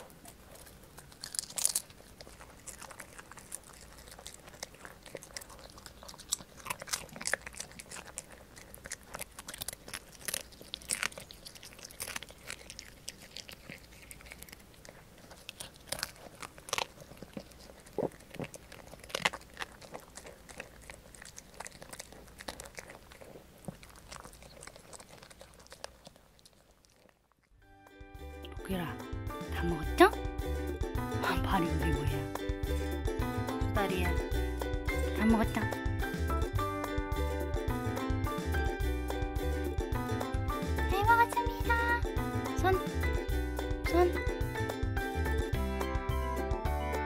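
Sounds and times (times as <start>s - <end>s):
dog chewing crunchy treat: 0.0s - 27.6s, 29.4s - 45.6s.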